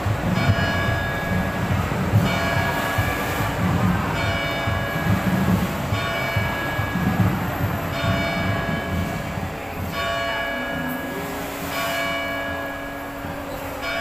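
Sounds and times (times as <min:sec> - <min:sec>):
church bell ringing: 0:00.0 - 0:09.3, 0:09.9 - 0:14.0.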